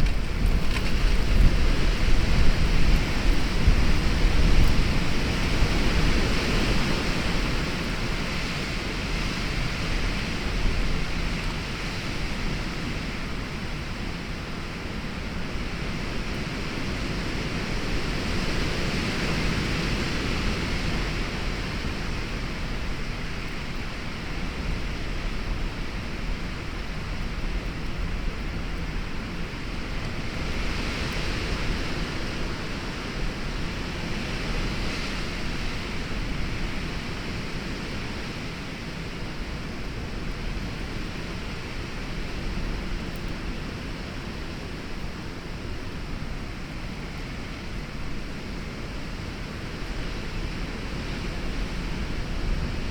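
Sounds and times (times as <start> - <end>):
gusting wind rumble: 0.0 - 52.9.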